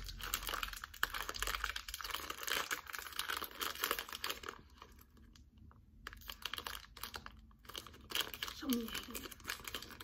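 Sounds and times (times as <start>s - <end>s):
plastic candy bag crinkling: 0.0s - 10.0s.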